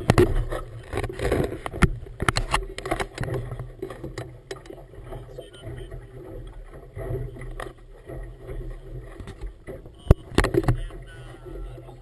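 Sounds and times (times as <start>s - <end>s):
boat rumble on water: 0.0s - 12.0s.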